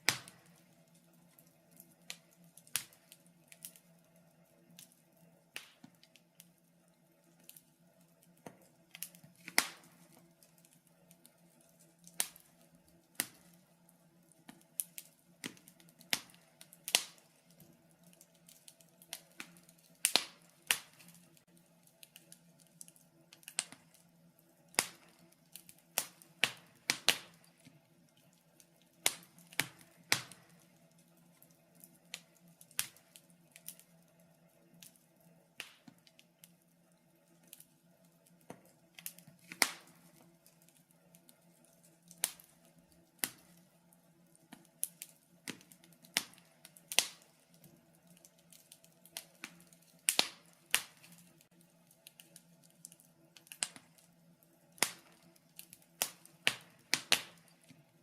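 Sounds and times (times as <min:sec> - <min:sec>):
faint steady hum: 0:00.0 - 0:58.0
wood fire crackling and popping: 0:00.0 - 0:58.0.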